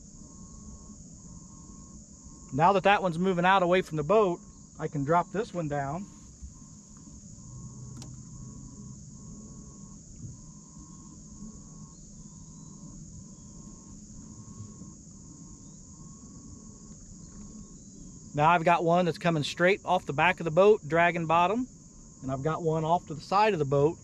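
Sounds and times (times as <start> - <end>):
high-pitched insect chorus: 0.0 - 24.0
low steady hum: 0.0 - 24.0.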